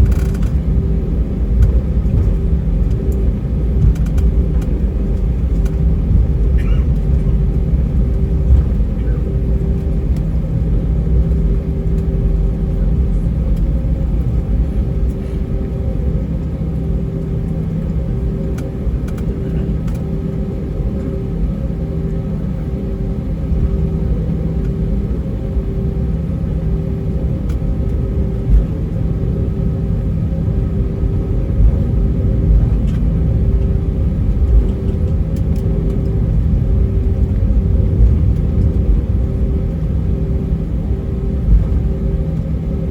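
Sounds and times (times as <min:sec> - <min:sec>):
deep engine rumble in cabin: 0:00.0 - 0:42.9
pulsing hum: 0:00.0 - 0:42.9.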